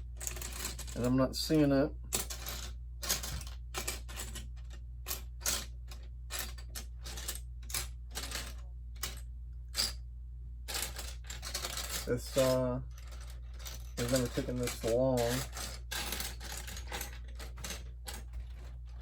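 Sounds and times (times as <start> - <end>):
plastic pieces clicking and rattling: 0.2 - 1.0, 2.1 - 9.2, 10.7 - 19.0.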